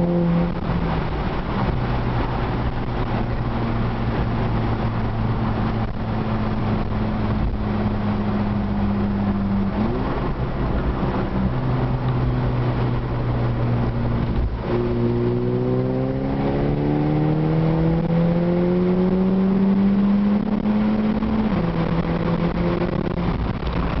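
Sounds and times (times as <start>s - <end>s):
car engine running and revving: 0.0s - 24.0s.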